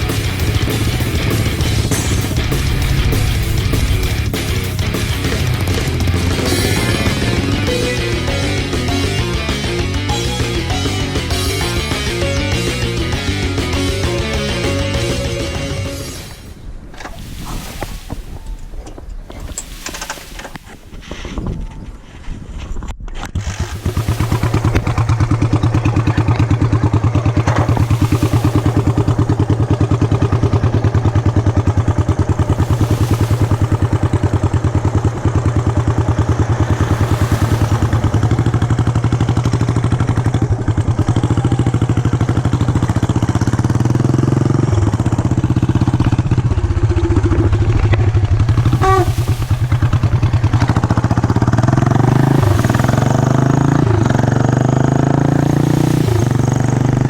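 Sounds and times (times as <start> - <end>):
motorcycle engine running: 0.0 - 17.7, 23.4 - 57.0.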